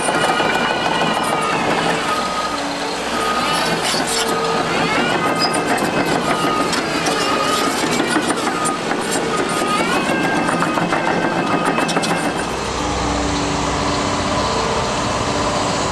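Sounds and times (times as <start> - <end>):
travel alarm beeping: 0.0 - 13.4
excavator engine and hydraulics: 0.0 - 15.9.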